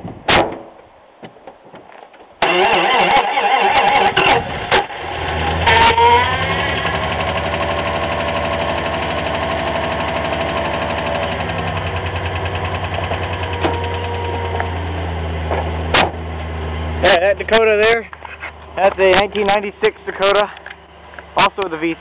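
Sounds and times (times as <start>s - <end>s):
car engine idling: 2.4s - 22.0s.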